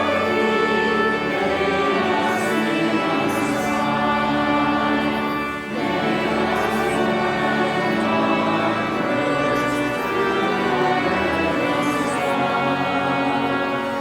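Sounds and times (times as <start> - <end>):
sustained held chords: 0.0 - 14.0.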